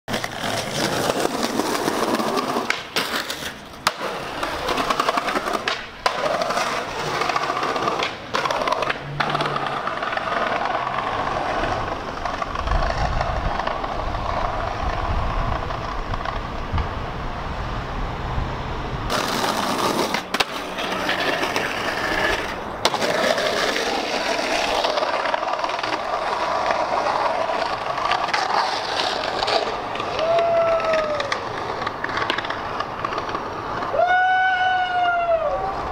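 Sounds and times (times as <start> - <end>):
skateboard clacks: 0.1 - 17.0, 19.1 - 35.9
skateboard wheels rolling on concrete: 0.1 - 35.9.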